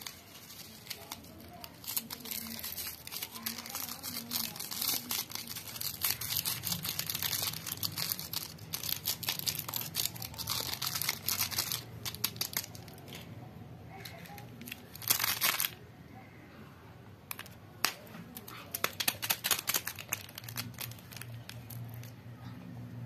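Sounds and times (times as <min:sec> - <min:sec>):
plastic packet crinkling: 0:00.0 - 0:13.2, 0:14.0 - 0:15.8, 0:17.3 - 0:22.2.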